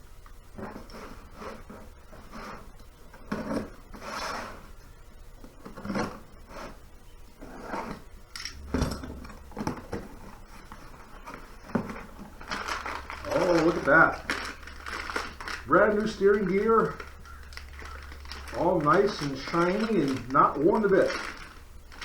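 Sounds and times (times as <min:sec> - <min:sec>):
cardboard scraping and rustling: 0:00.6 - 0:04.8, 0:05.4 - 0:06.8, 0:09.4 - 0:22.0.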